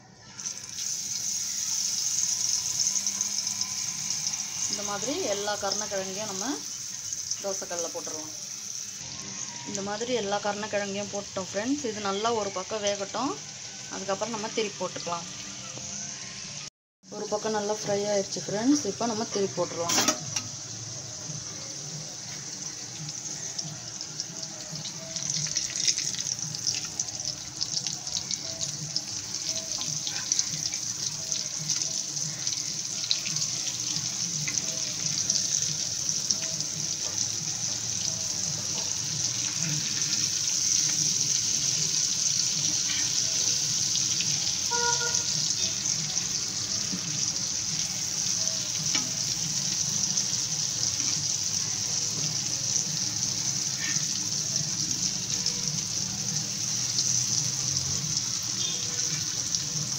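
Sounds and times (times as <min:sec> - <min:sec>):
slices sizzling in oil: 0:00.3 - 0:59.9.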